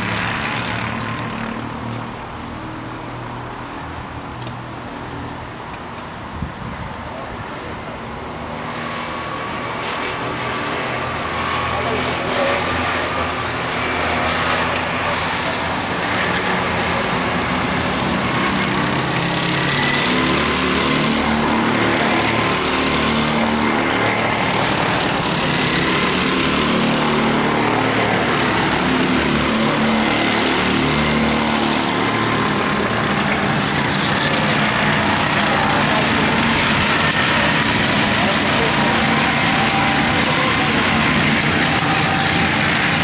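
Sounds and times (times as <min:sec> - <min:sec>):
go-kart engines passing: 0:00.0 - 0:43.0.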